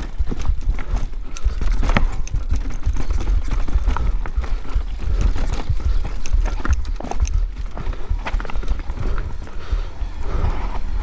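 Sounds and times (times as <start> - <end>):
bike wheels knocking on rocks: 0.0 - 11.0
heavy low rumble: 0.0 - 11.0.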